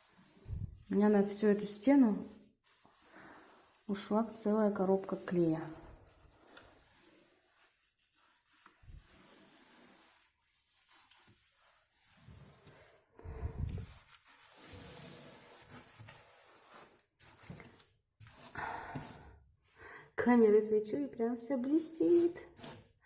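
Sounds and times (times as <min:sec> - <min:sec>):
glue brush wet swishing on wall: 0:00.0 - 0:19.8, 0:21.8 - 0:23.0.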